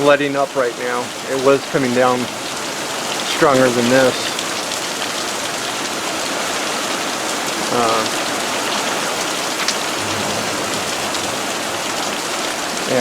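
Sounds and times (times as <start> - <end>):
dense rain hiss: 0.0 - 13.0.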